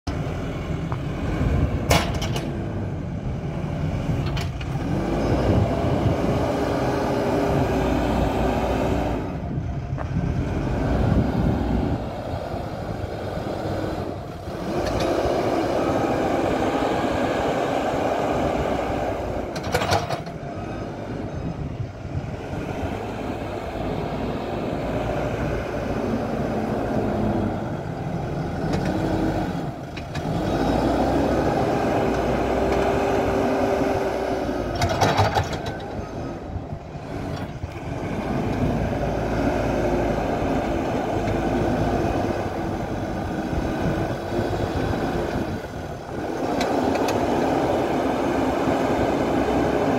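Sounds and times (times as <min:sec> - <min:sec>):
diesel engine under load: 0:00.0 - 0:49.9.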